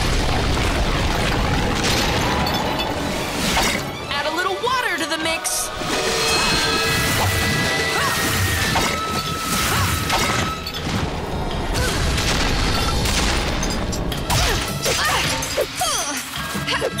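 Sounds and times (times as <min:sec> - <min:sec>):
action background music: 0:00.5 - 0:17.0.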